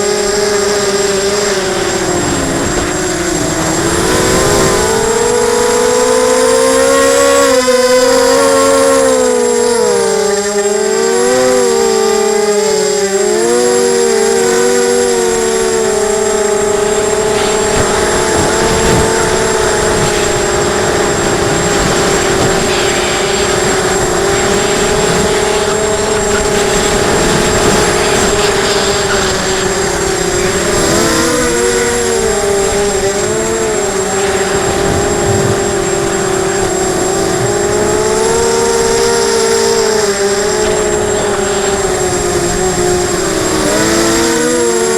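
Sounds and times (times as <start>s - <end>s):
wind buffeting microphone: 0.0s - 12.4s, 13.1s - 44.9s
quadcopter motors whining: 0.0s - 44.9s.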